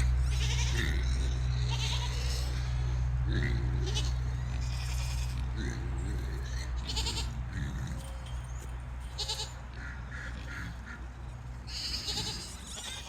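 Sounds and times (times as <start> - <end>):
goats bleating: 0.0 - 8.2, 9.0 - 13.0
steady low hum: 0.0 - 13.0.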